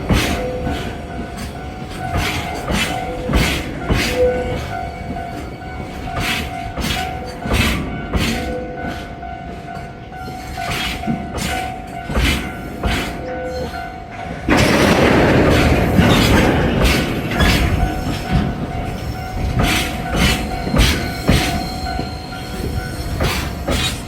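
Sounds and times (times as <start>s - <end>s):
train wheels clacking over rail joints: 0.0s - 24.0s.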